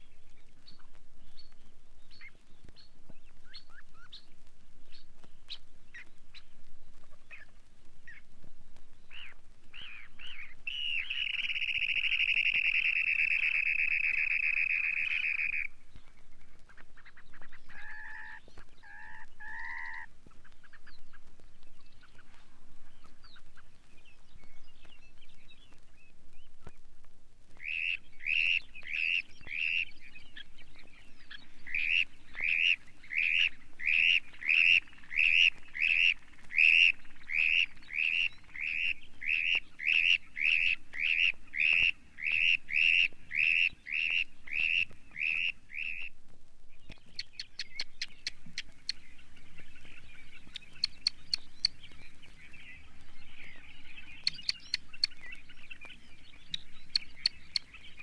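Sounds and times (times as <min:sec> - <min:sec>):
faint chatter of bird calls: 0:00.0 - 0:58.0
buzzy bird calls: 0:09.0 - 0:26.8, 0:27.6 - 0:58.0.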